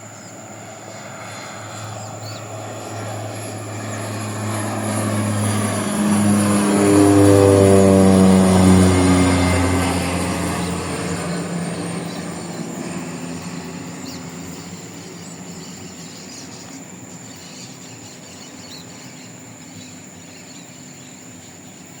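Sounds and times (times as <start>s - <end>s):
propeller plane hum: 0.0s - 22.0s.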